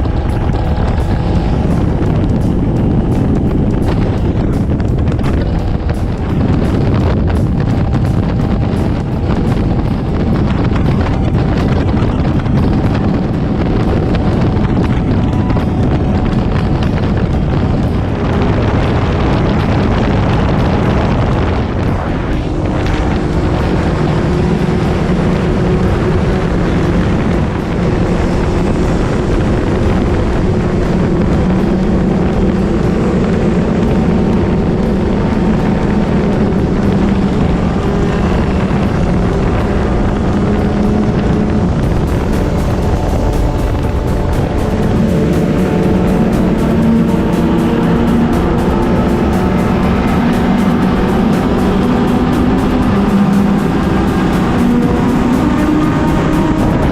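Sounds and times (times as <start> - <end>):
motorcycle engine running: 0.0 - 56.9
wind noise on microphone: 0.0 - 56.9.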